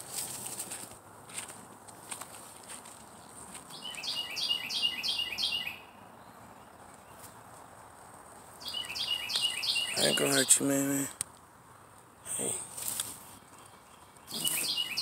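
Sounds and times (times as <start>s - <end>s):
songbird singing: 2.9s - 15.0s.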